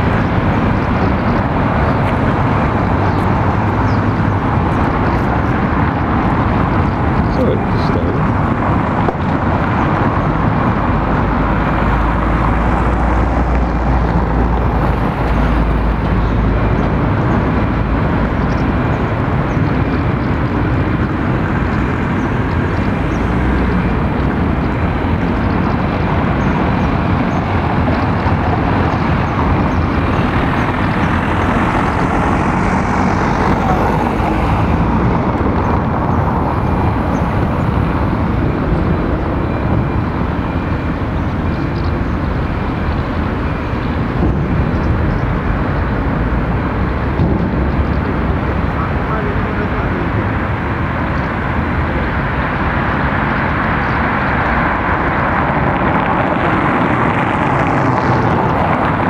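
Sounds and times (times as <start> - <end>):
street traffic hiss and rumble: 0.0 - 59.0.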